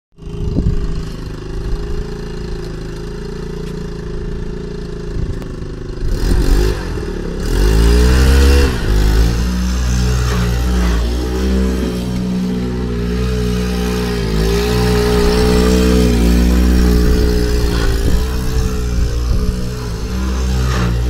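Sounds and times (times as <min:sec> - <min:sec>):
go-kart engine revving: 0:00.2 - 0:21.0.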